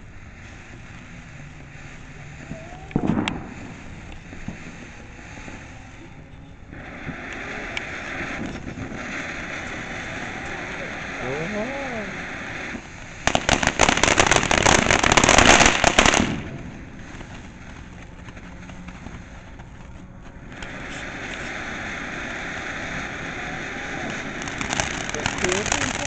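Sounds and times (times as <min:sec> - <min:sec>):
firework crackling and hissing: 0:00.0 - 0:26.0.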